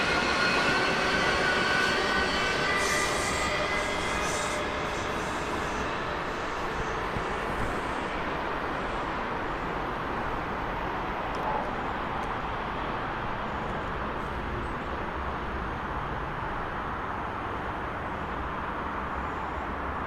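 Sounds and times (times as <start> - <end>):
train rumbling and hissing: 0.0 - 20.0.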